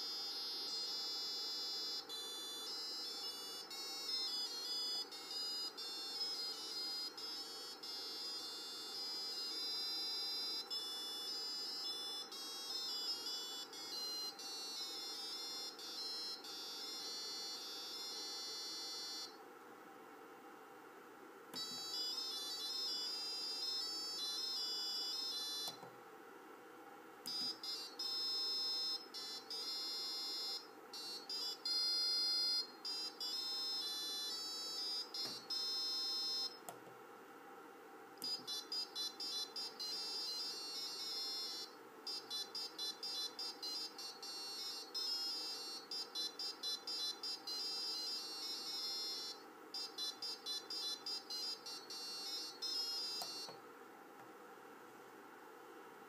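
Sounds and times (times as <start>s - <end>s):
electronic square-wave beeps tune: 0.0s - 19.4s, 21.6s - 25.8s, 27.3s - 36.6s, 38.2s - 53.6s.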